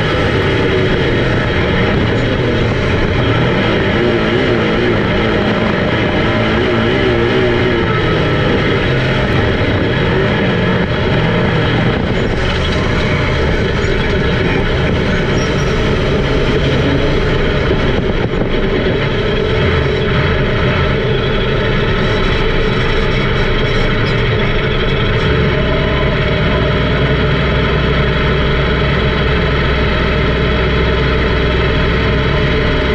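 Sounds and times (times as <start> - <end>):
race car engines droning: 0.0 - 32.9.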